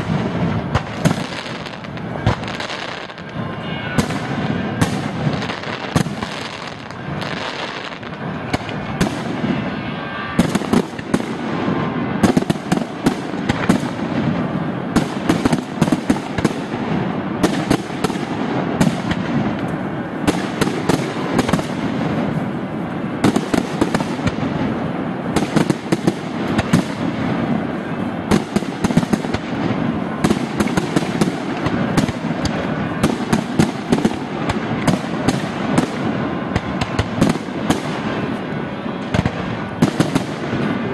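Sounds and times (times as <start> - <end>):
firework crackle: 0.0 - 40.9.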